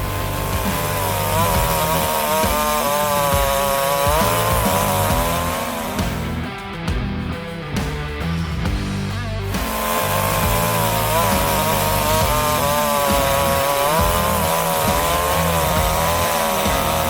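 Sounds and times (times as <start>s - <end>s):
chainsaw cutting wood: 0.0s - 6.8s, 7.8s - 17.0s.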